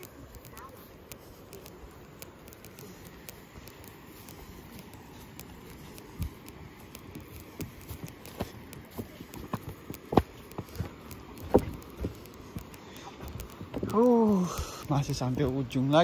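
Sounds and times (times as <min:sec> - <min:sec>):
footsteps on dirt and pebbles: 0:00.0 - 0:16.0
footsteps on dry palm fronds: 0:00.0 - 0:16.0.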